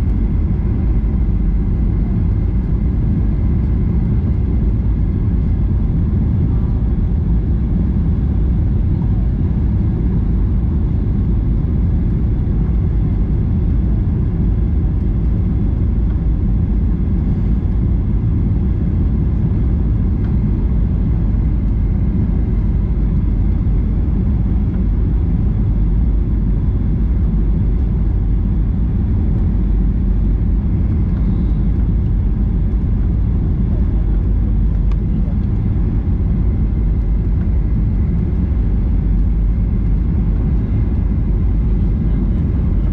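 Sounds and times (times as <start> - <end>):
faint steady whines: 0.0 - 42.9
jet engine cabin rumble: 0.0 - 42.9.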